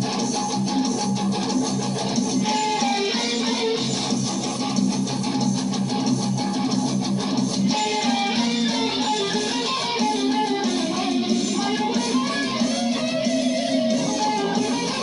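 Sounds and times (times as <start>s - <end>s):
electric guitar riff: 0.0s - 15.0s.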